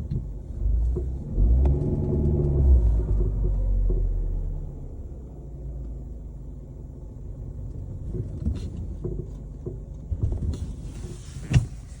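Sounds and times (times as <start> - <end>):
suspension clunks: 0.0 - 6.1, 7.4 - 12.0
car road rumble: 0.0 - 12.0.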